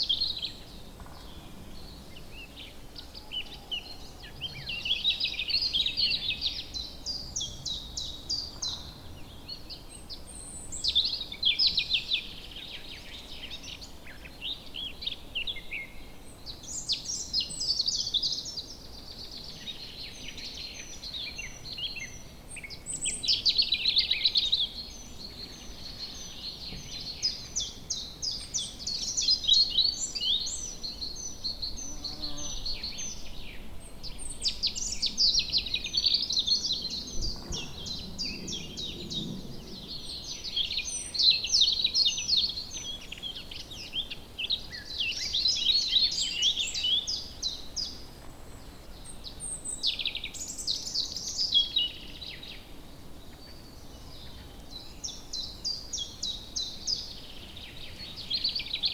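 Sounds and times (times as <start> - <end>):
faint outdoor hiss: 0.0 - 58.9
songbirds twittering: 0.0 - 58.9.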